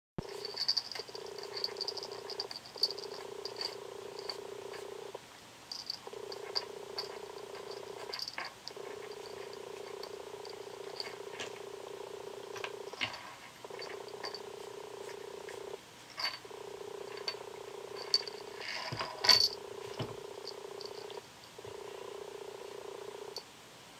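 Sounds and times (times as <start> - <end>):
cat purring: 0.2 - 23.4.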